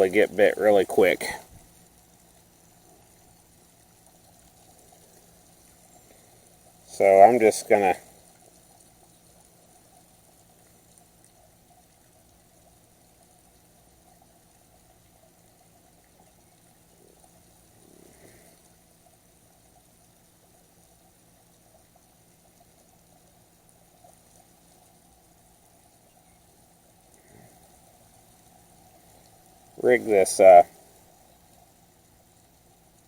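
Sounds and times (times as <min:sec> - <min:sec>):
faint background hiss: 0:00.0 - 0:33.0.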